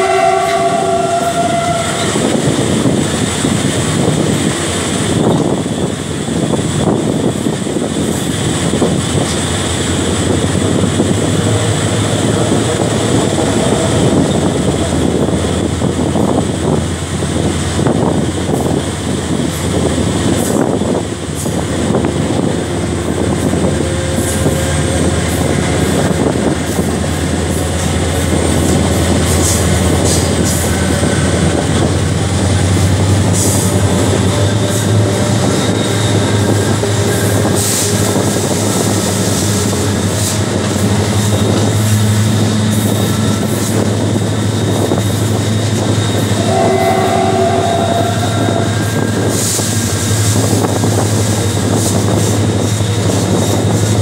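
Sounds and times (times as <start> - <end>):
locomotive engine drone: 0.0 - 54.0.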